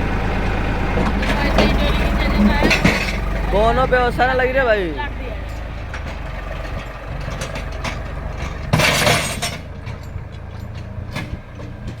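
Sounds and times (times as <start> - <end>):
tractor engine running: 0.0 - 12.0
clinks and rattles: 1.0 - 12.0.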